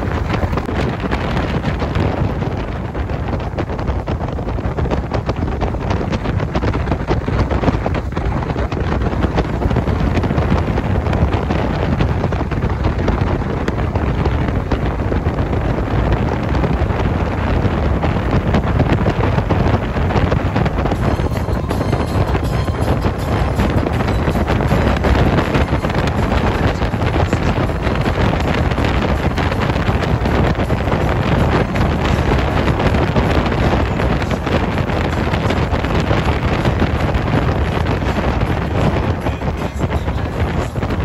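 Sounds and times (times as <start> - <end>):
boat engine: 0.0 - 41.0
wind buffeting microphone: 0.0 - 41.0.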